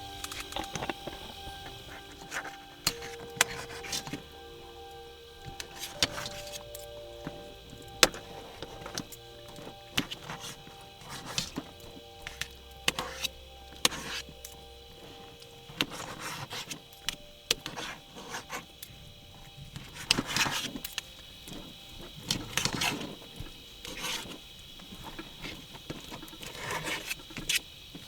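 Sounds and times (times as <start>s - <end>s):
faint high-pitched drone: 0.0s - 25.4s.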